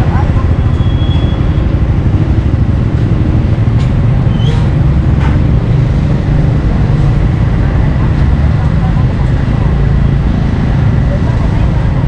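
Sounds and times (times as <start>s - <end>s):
loud low rumble: 0.0s - 12.0s.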